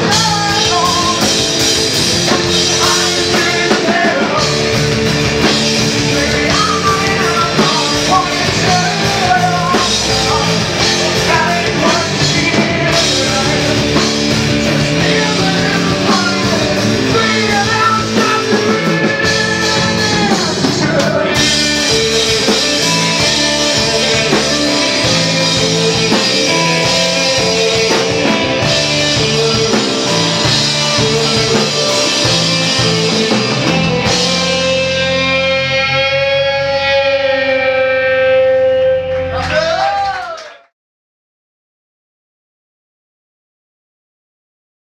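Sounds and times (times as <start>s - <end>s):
distorted electric guitars: 0.0s - 39.8s
drum kit: 0.0s - 40.4s.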